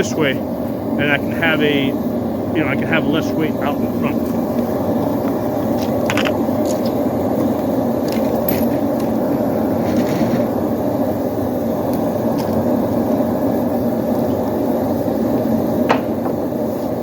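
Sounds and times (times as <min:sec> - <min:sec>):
forge roaring: 0:00.0 - 0:17.0.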